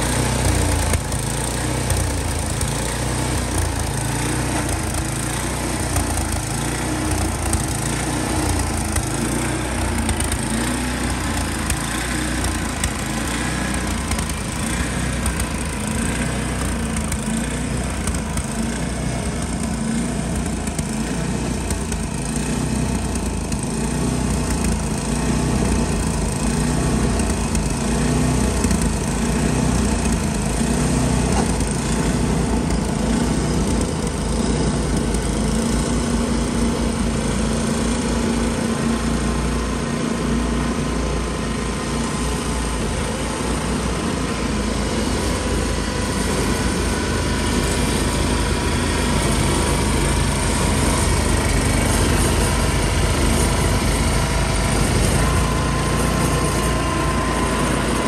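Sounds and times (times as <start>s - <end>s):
snowblowers running: 0.0s - 58.0s.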